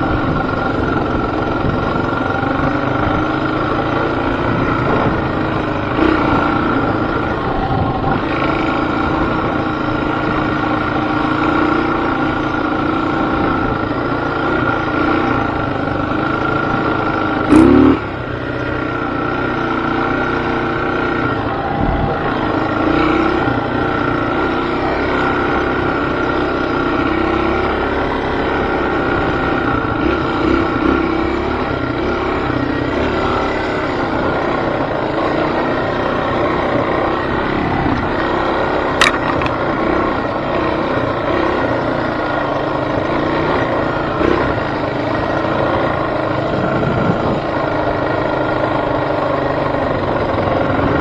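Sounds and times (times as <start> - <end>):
motor vehicle engine running: 0.0 - 51.0.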